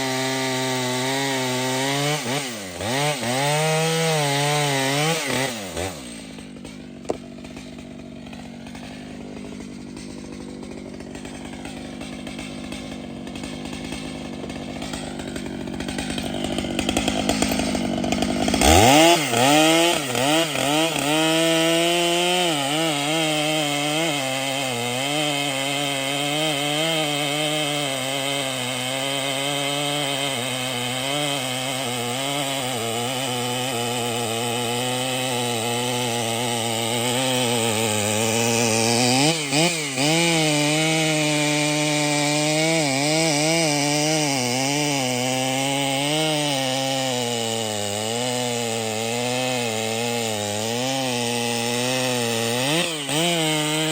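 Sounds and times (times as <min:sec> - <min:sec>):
chainsaw running and revving: 0:00.0 - 0:53.9.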